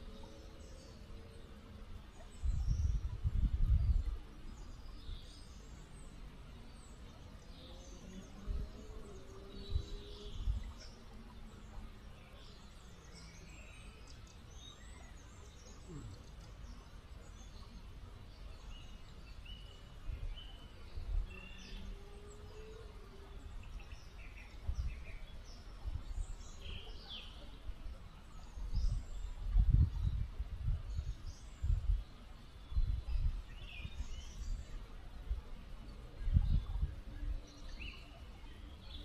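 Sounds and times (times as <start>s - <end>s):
small river flowing: 0.0s - 39.0s
songbirds chirping and whistling: 0.0s - 39.0s.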